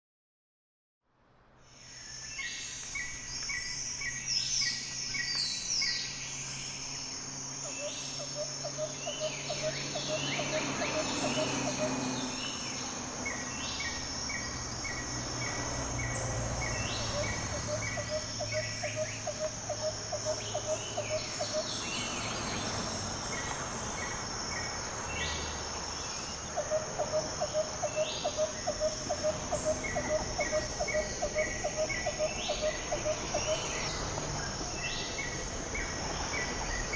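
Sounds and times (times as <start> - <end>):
high-pitched insect drone: 3.0 - 36.9
birds calling: 6.9 - 36.9.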